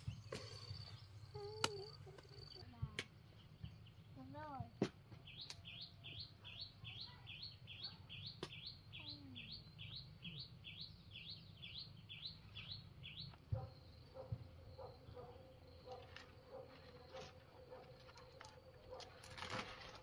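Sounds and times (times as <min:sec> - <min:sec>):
bird chirping: 0:00.0 - 0:04.6, 0:05.2 - 0:19.2.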